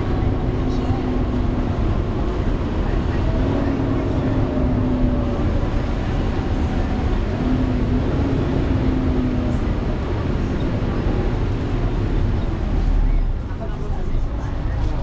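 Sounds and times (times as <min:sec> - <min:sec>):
bus engine and road rumble: 0:00.0 - 0:15.0
engine cooling fan: 0:00.0 - 0:15.0.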